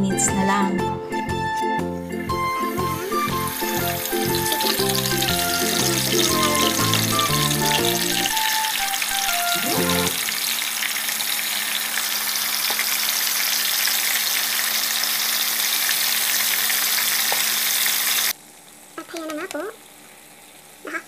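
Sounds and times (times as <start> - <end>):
chicken sizzling in hot oil: 2.3 - 21.0.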